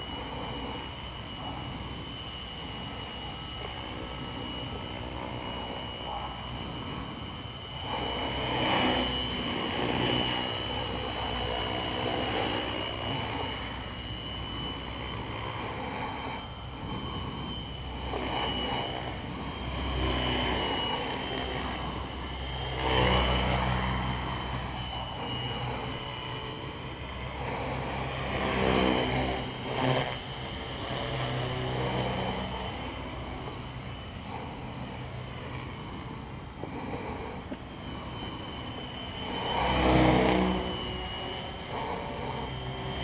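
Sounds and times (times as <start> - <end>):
rc helicopter motor whine: 0.0 - 43.0.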